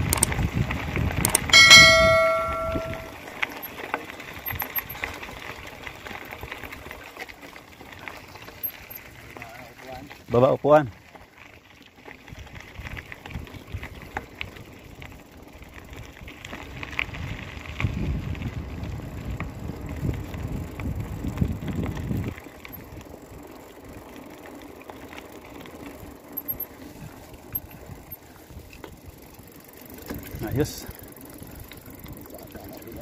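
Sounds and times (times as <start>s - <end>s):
bicycle tyres rumbling on dirt: 0.0s - 33.0s
bike clicking and rattling: 0.0s - 33.0s.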